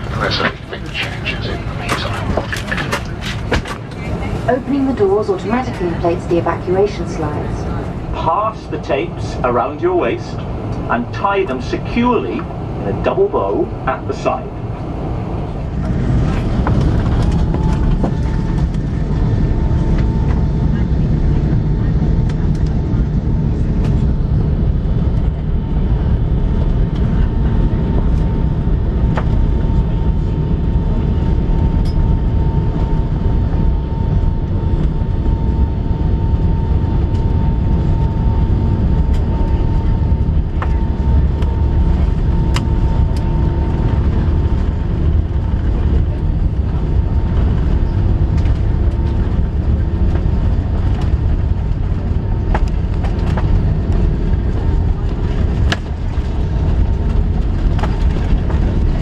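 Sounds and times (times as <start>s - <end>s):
low aircraft cabin rumble: 0.0s - 59.0s.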